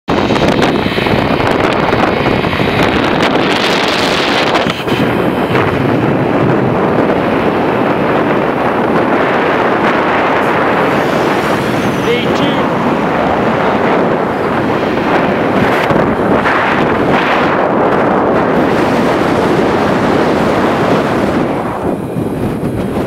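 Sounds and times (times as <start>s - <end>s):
scooter road and engine noise: 0.1s - 23.0s
wind buffeting microphone: 0.1s - 23.0s.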